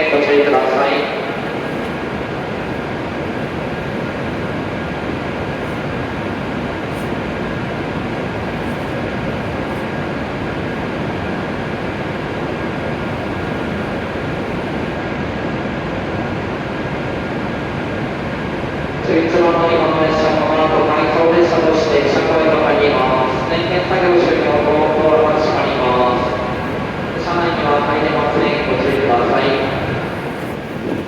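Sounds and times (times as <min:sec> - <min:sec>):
train rushing hum: 0:00.0 - 0:31.0.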